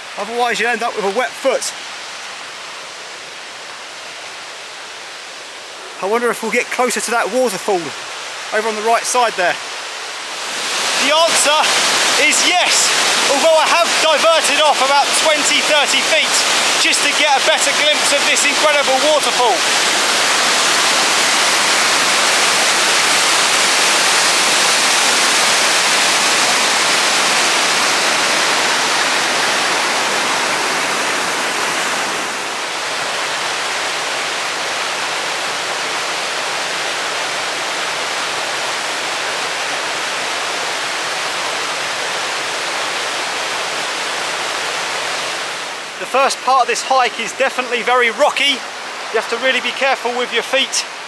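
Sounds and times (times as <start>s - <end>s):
stream over small cascades: 0.0s - 51.0s
waterfall rushing: 0.0s - 51.0s.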